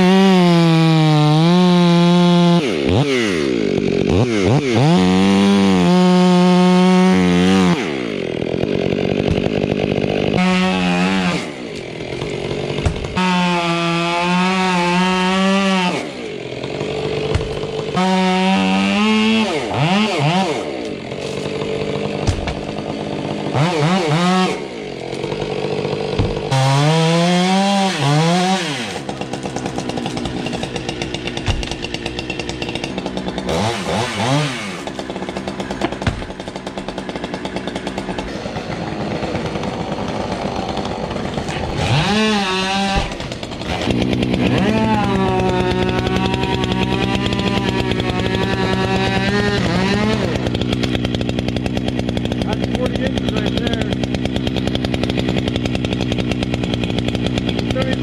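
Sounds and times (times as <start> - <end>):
chainsaw revving cutting wood: 0.0 - 58.0.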